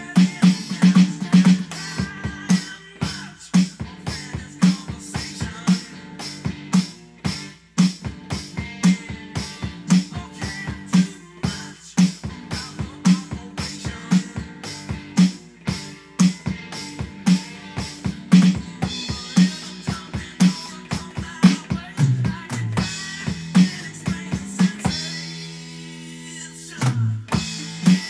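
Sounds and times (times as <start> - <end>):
rock drum kit playing: 0.0 - 28.0.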